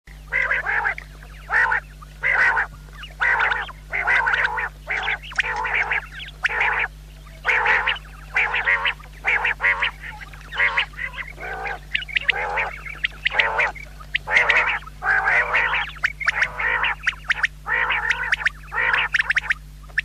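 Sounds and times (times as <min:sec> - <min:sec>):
steady low hum: 0:00.1 - 0:20.0
quail calling: 0:00.2 - 0:20.0.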